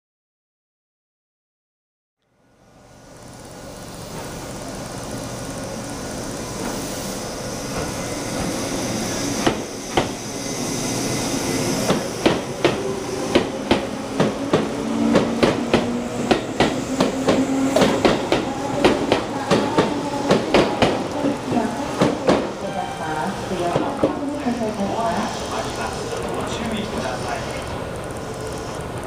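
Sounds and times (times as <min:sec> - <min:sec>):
train running noise: 0:02.6 - 0:29.0.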